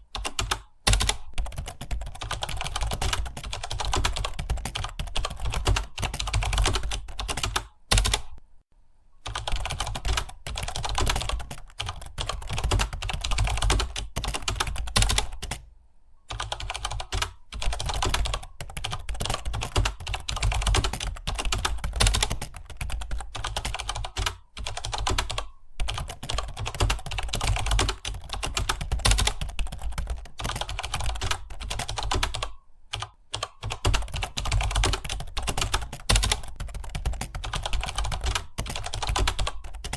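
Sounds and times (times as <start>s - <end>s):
keyboard typing: 0.0s - 8.4s, 9.2s - 15.7s, 16.3s - 39.9s.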